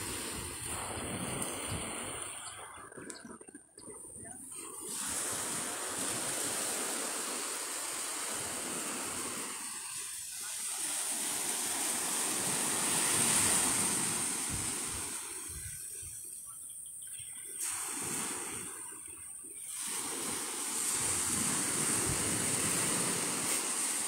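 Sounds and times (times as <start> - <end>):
waves breaking on a beach: 0.0 - 24.0.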